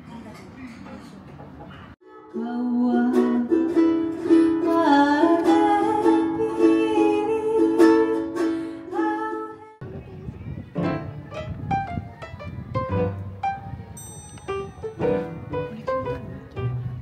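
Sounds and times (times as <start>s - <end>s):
plucked string tune: 2.0s - 9.6s, 10.7s - 17.0s.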